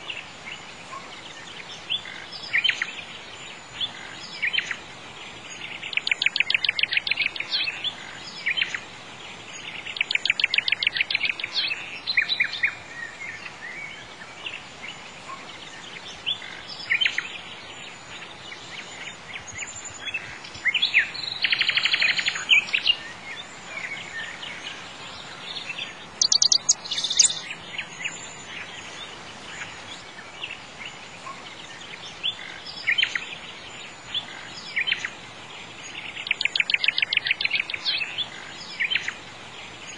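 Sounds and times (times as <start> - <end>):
background hiss: 0.0 - 39.9
songbirds chirping and trilling: 0.0 - 39.9.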